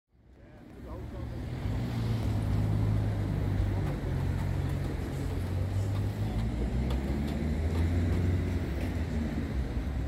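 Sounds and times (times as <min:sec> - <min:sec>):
street traffic rumble: 0:00.1 - 0:10.0.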